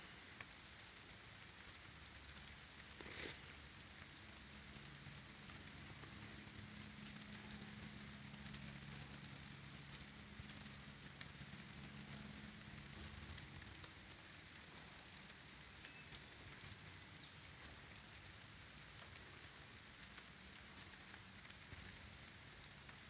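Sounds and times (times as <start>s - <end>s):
light rain drops ticking: 0.0s - 23.0s.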